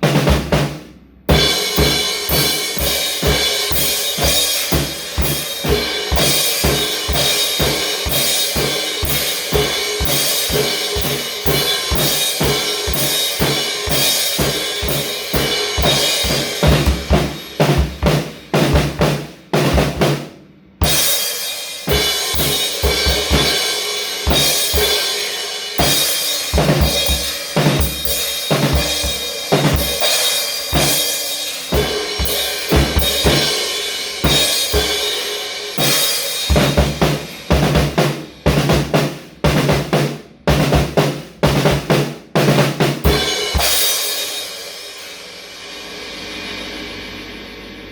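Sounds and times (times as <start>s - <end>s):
music with drum kit beat: 0.0s - 47.3s.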